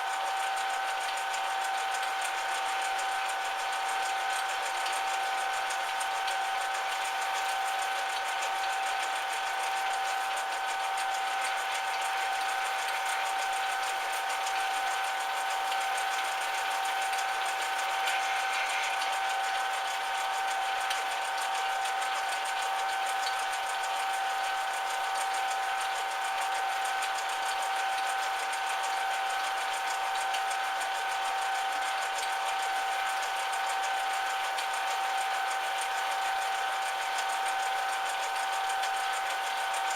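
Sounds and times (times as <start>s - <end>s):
metal lathe whining: 0.0s - 39.9s.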